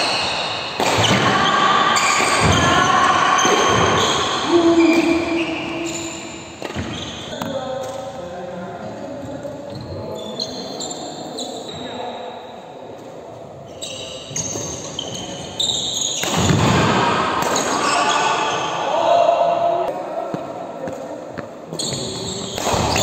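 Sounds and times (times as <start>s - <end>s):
players' voices: 0.0s - 23.0s.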